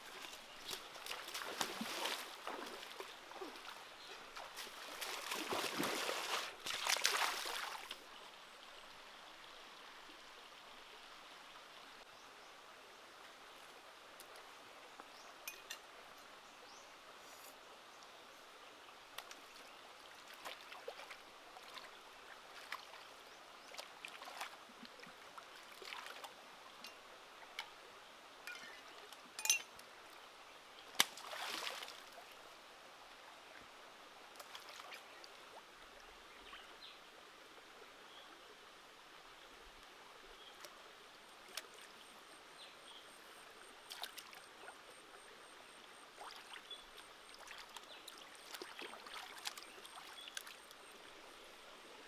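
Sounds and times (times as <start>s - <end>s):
stream flowing over rocks: 0.0s - 52.0s.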